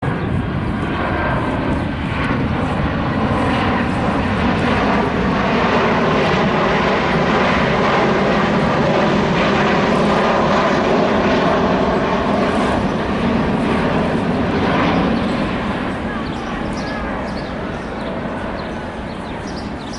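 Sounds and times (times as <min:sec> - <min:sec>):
airliner engines passing: 0:00.0 - 0:19.9.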